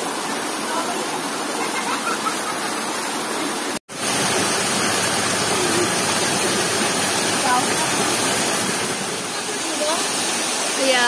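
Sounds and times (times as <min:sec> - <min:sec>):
waterfall rushing over boulders: 0:00.0 - 0:11.0.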